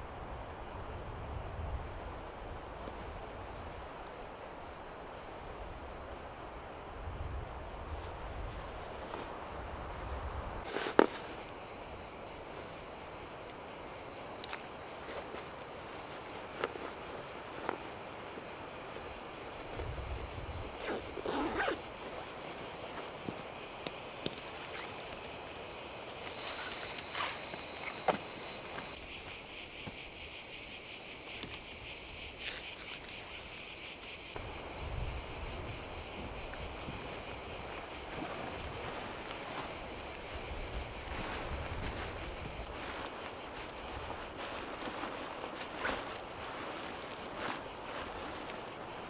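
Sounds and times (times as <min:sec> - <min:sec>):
shrill insect chorus: 0:00.0 - 0:49.0
rustling of camping gear: 0:01.2 - 0:49.0.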